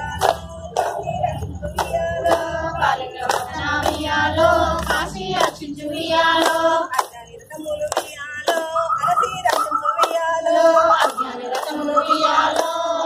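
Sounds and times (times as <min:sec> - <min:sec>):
hand claps: 0:00.0 - 0:13.0
women singing in chorus: 0:00.0 - 0:13.0.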